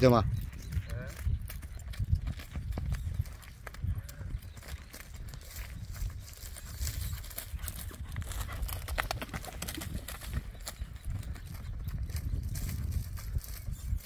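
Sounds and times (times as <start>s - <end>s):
horse hooves galloping on dirt: 0.0s - 14.0s.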